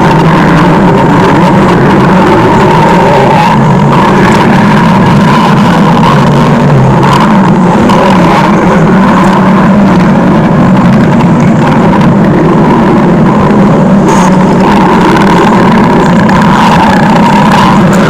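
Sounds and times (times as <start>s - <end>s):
stomach growling: 0.0s - 18.0s.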